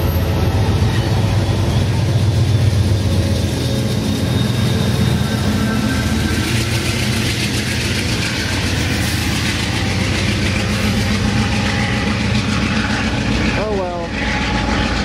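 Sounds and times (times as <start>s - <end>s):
diesel locomotive engine drone: 0.0s - 15.0s
train cars on rails: 0.0s - 15.0s.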